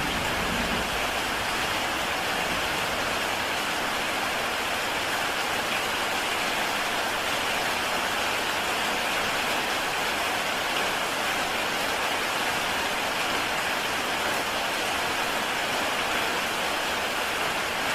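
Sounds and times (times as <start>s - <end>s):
heavy rain on a tile roof: 0.0s - 17.9s.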